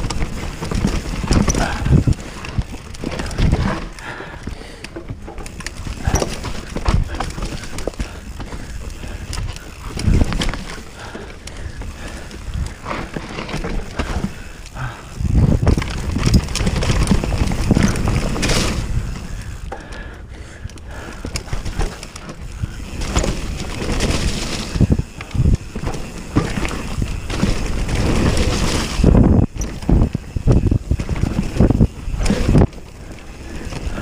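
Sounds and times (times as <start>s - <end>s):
tyres rumbling over dirt and rocks: 0.0s - 19.8s, 21.1s - 34.0s
bike clattering over bumps: 0.0s - 34.0s.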